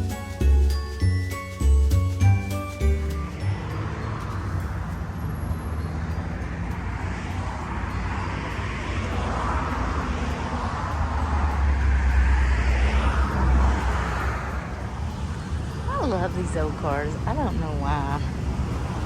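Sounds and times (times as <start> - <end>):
car engine rumble: 0.0 - 19.0
vehicle passing by: 1.6 - 19.0.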